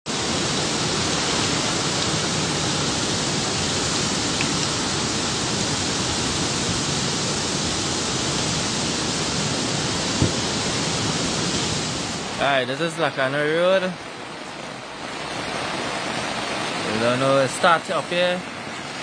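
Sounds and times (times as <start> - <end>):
wind: 0.0 - 19.0
heavy rain: 0.1 - 19.0.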